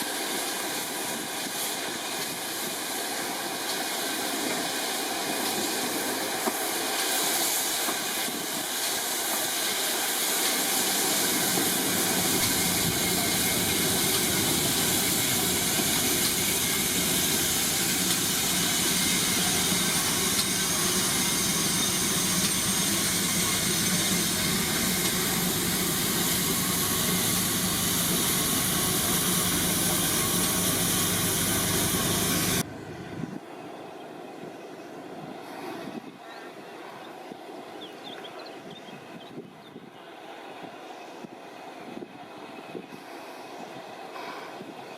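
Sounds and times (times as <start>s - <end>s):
locomotive hiss and whine: 0.0s - 44.9s.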